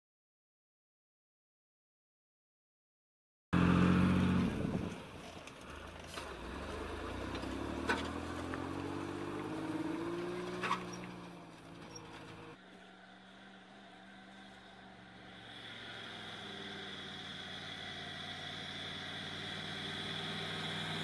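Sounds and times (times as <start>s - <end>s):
truck diesel engine accelerating: 3.6s - 21.0s.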